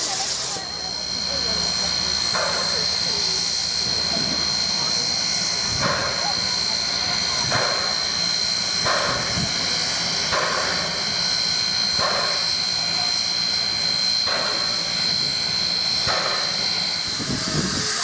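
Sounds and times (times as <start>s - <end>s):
steady high-pitched tone: 0.0s - 18.0s
steam locomotive hissing: 0.0s - 18.0s.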